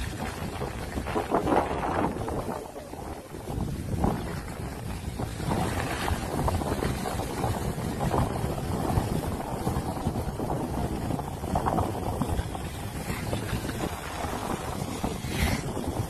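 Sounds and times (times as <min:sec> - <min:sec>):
skis sliding over snow: 0:00.0 - 0:16.0
wind noise on microphone: 0:00.0 - 0:16.0.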